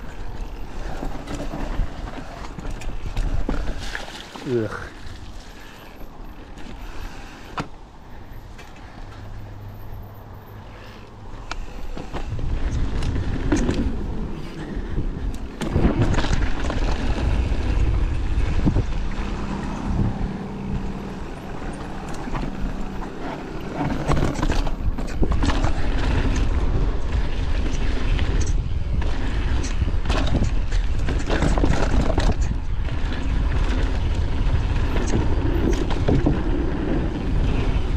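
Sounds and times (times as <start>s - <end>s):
bike tyres rolling over dirt: 0.0s - 7.4s, 11.6s - 37.9s
bike knocking and rattling: 0.0s - 9.2s, 11.4s - 37.9s.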